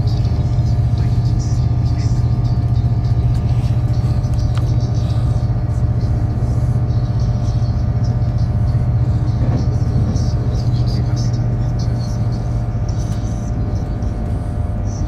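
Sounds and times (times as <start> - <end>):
steady hum: 0.0 - 15.0
train wheels rumbling on track: 0.0 - 15.0.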